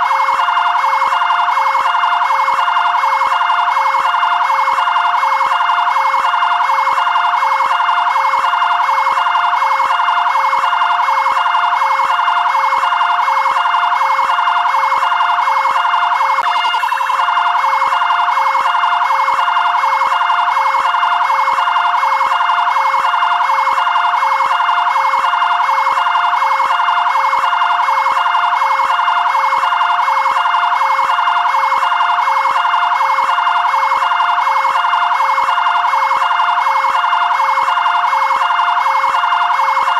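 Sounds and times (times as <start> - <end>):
two-tone siren: 0.0 - 39.9.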